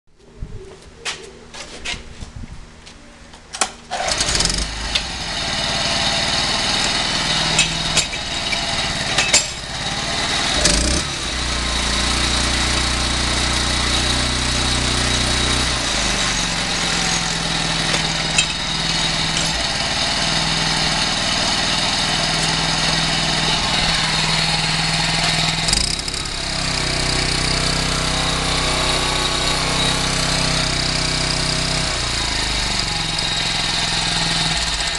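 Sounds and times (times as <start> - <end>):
tiller engine running: 3.9 - 34.9.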